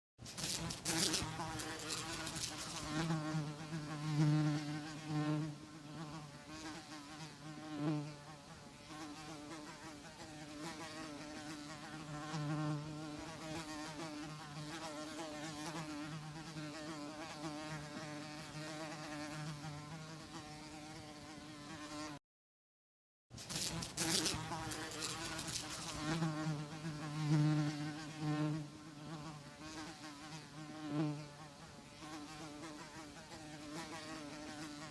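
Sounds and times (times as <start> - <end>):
housefly buzzing: 0.2 - 22.2, 23.4 - 34.9.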